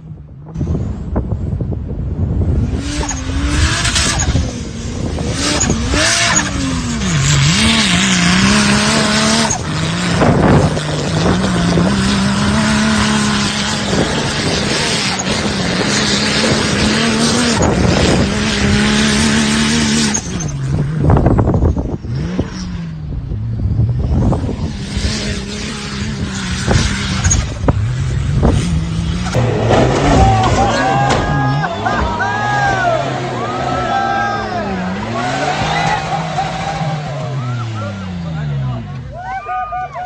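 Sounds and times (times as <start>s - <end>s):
off-road vehicle engine revving: 2.2s - 39.2s
tyres rushing over terrain: 2.6s - 40.0s.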